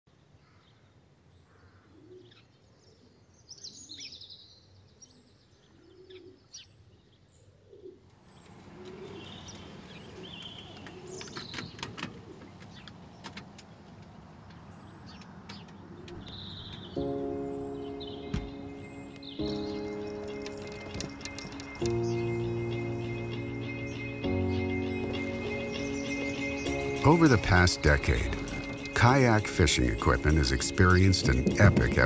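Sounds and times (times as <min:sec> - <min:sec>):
background noise: 0:00.1 - 0:32.0
soft low bird calls: 0:01.4 - 0:28.9
birds chirping and singing: 0:01.7 - 0:32.0.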